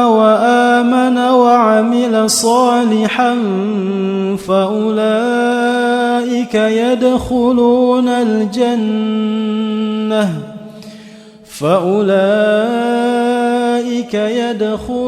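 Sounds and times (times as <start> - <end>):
person chanting melodically: 0.0 - 15.0.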